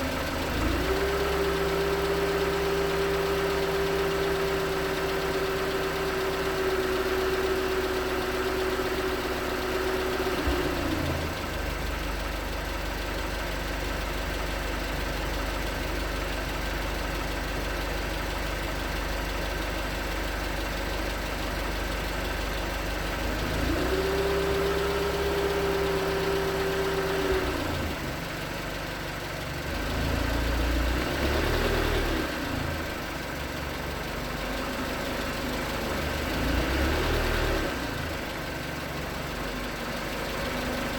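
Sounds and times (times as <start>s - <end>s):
car engine idling with knocking: 0.0s - 40.9s.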